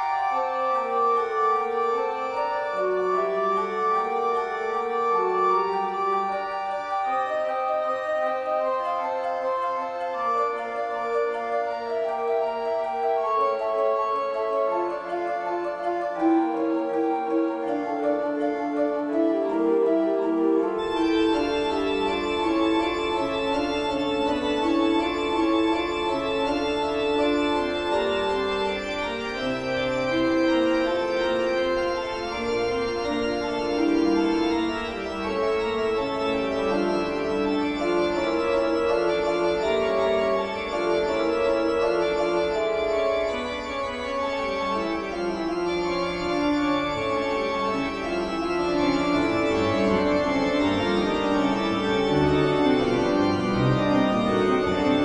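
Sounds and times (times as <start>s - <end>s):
keyboard background music: 0.0s - 55.0s.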